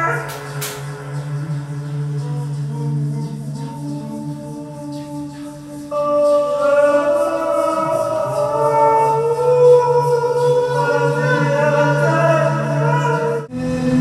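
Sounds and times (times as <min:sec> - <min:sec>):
layered sung tones: 0:00.0 - 0:14.0
low drone: 0:00.0 - 0:14.0
voice gliding upward: 0:00.0 - 0:14.0.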